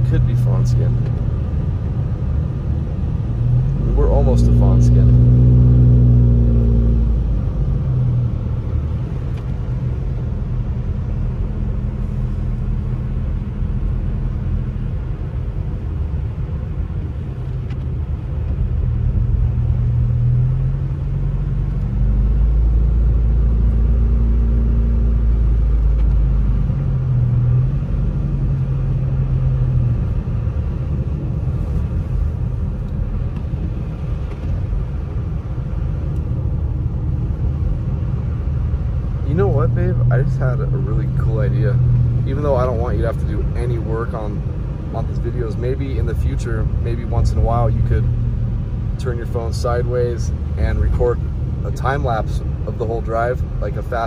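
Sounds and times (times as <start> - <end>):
car engine hum: 0.0 - 54.0
road rumble on wet road: 0.0 - 54.0.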